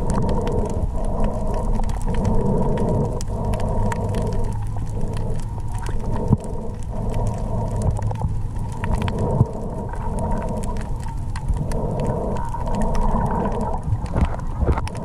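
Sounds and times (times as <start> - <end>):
crackling clicks: 0.0 - 15.0
underwater low rumble: 0.0 - 15.0.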